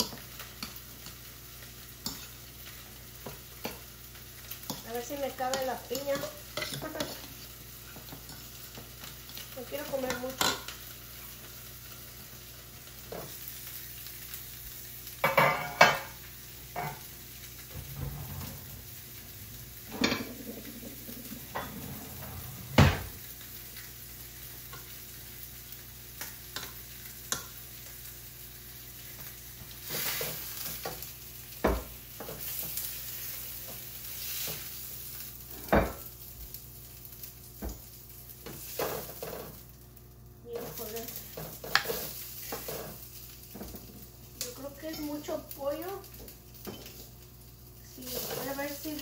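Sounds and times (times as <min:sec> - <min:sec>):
chicken sizzling in pan: 0:00.0 - 0:49.0.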